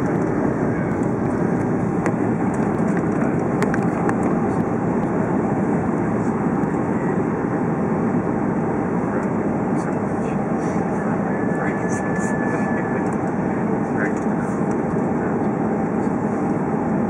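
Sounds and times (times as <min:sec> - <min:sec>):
distant jet engines rushing: 0:00.0 - 0:17.0.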